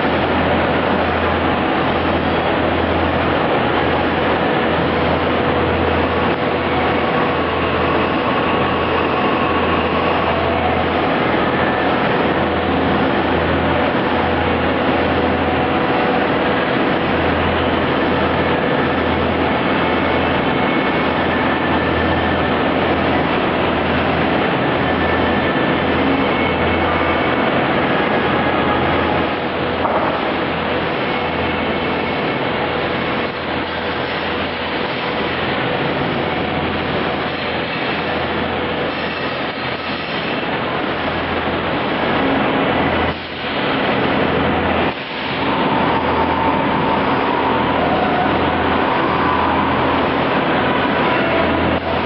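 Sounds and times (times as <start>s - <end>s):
faint steady whines: 0.0s - 52.0s
machine tool running: 0.0s - 52.0s.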